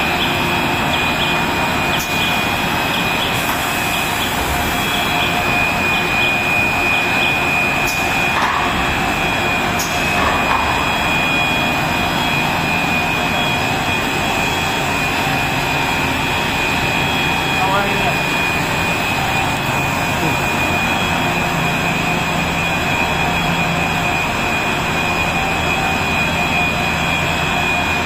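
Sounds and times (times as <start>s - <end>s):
constant high whine: 0.0s - 28.0s
production line mechanical drone: 0.0s - 28.0s.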